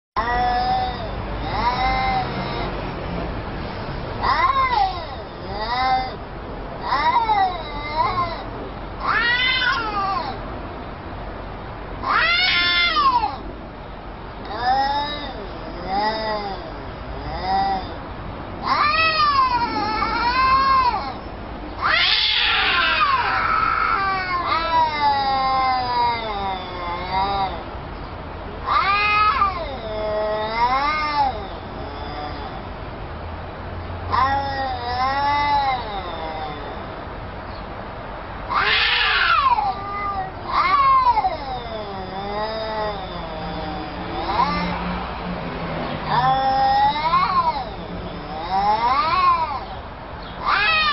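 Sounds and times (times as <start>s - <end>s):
cats yowling: 0.2s - 10.6s, 12.0s - 13.6s, 14.4s - 27.8s, 28.6s - 32.9s, 34.0s - 37.4s, 38.2s - 50.9s.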